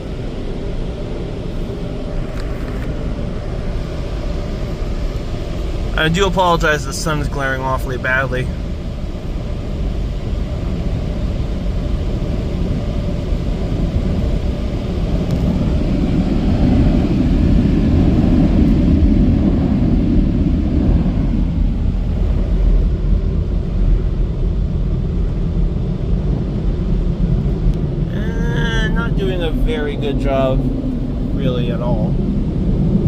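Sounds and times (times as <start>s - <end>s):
car wash air blowers: 0.0s - 33.0s.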